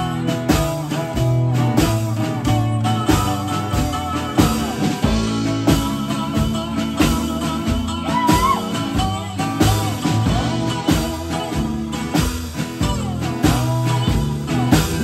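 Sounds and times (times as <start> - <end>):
blues-rock band playing: 0.0 - 15.0.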